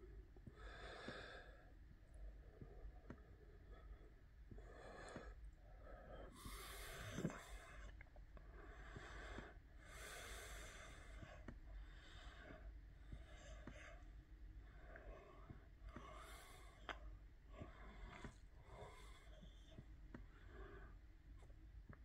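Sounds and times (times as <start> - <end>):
faint breathing: 0.0 - 21.5.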